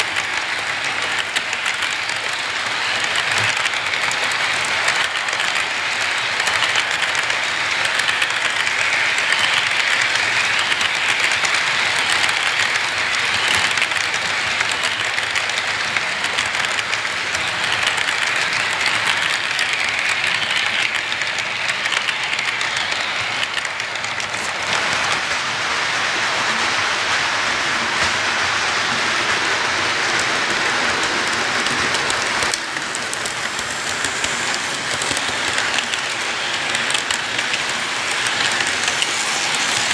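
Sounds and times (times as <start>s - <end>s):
model train wheels rattling on track: 0.0s - 25.4s, 27.8s - 39.9s.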